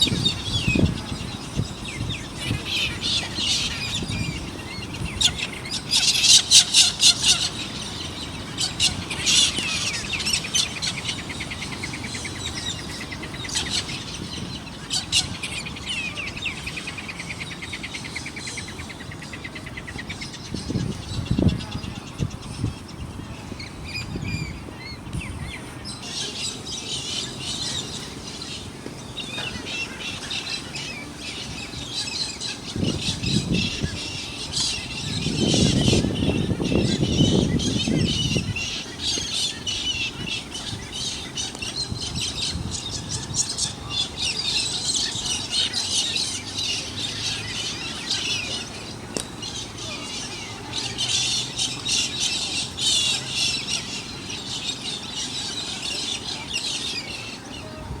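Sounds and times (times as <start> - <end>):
many birds chirping: 0.0 - 58.0.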